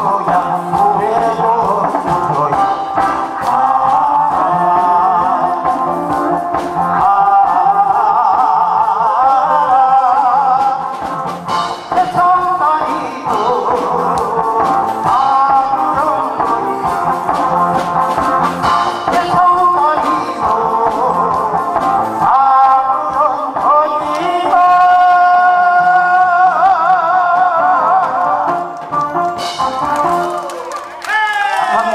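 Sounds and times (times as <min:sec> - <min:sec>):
man singing with vibrato: 0:00.0 - 0:30.3, 0:31.2 - 0:31.9
karaoke backing track: 0:00.0 - 0:31.9.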